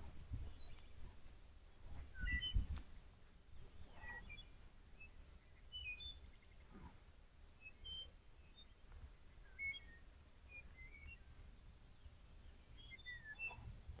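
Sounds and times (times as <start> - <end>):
faint birdsong chirps: 0.3 - 14.0.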